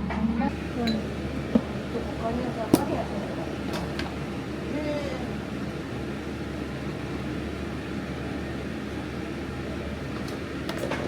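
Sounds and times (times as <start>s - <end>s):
machine humming and hissing: 0.0s - 11.0s.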